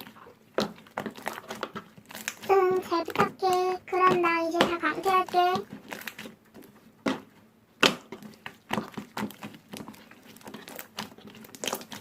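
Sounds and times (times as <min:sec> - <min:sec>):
slime pop: 0:00.0 - 0:12.0
slime squishing: 0:00.0 - 0:12.0.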